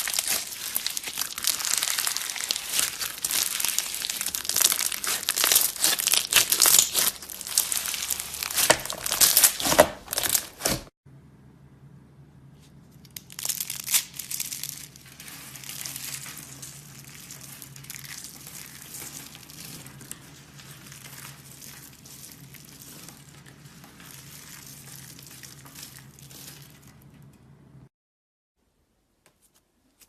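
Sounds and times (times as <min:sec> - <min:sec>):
slime crackling and popping: 0:00.0 - 0:10.9, 0:13.2 - 0:27.2.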